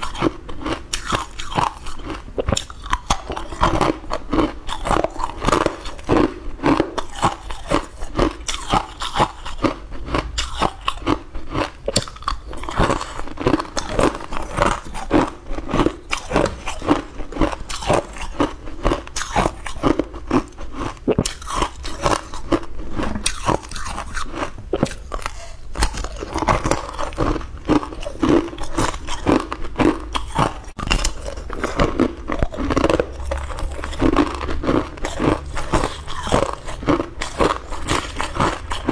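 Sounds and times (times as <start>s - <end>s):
ice cubes being chewed: 0.0s - 38.9s.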